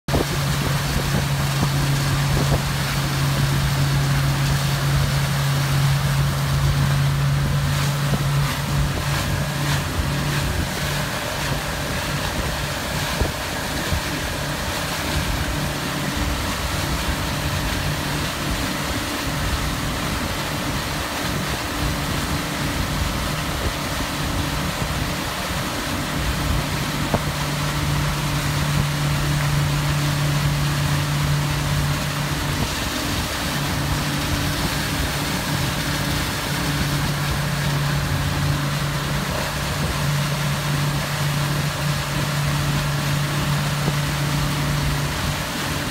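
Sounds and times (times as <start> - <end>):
motorboat engine running: 0.0 - 45.9
rush of wake water: 0.0 - 45.9
wind buffeting microphone: 0.1 - 45.9.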